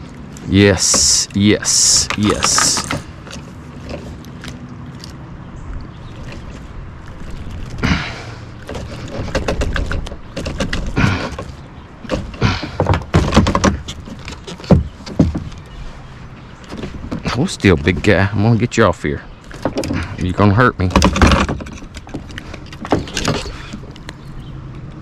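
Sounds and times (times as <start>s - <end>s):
knocks and clatter in a kayak: 0.0s - 25.0s
water splashing: 0.0s - 25.0s.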